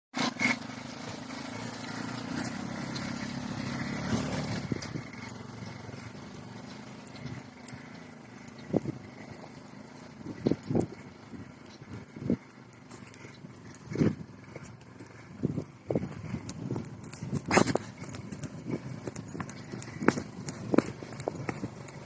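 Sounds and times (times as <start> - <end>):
distant motor engine humming: 0.4 - 22.0.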